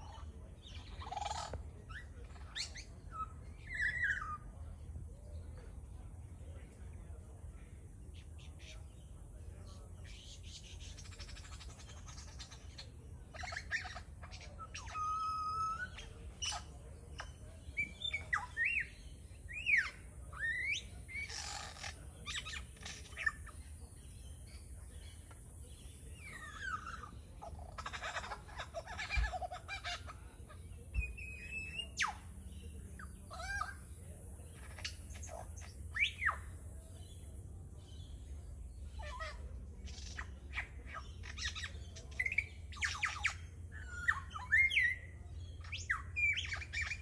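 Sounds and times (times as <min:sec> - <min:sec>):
lyrebird mimicry song: 0:00.0 - 0:05.8, 0:08.0 - 0:47.0.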